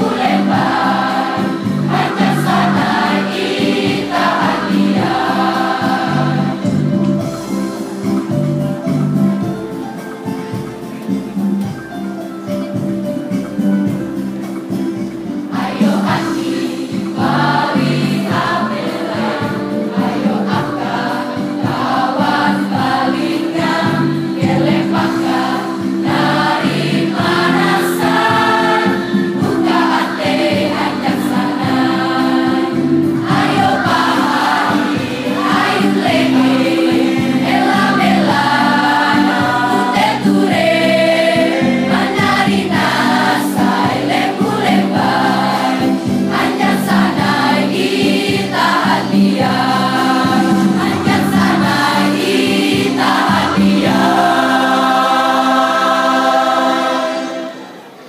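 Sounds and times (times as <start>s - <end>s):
choir singing: 0.0s - 9.2s, 14.5s - 58.0s.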